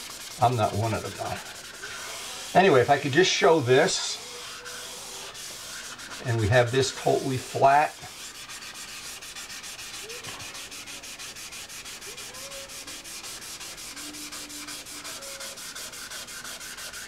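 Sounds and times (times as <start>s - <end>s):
sandpaper rubbing back and forth: 0.0s - 17.0s.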